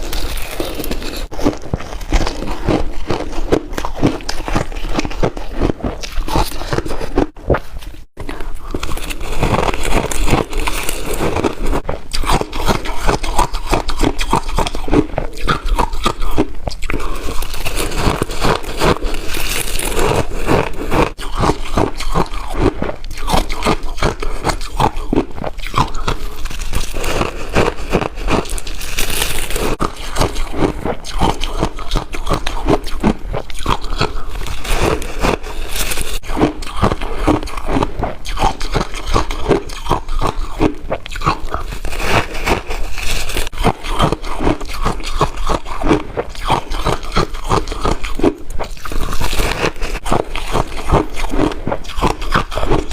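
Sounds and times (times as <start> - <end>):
ice crunching while chewed: 0.0 - 52.9.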